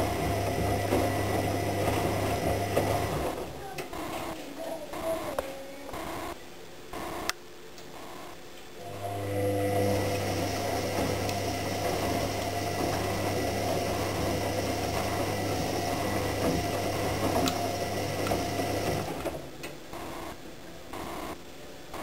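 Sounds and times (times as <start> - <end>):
washing machine motor humming: 0.0 - 6.4, 8.8 - 22.0.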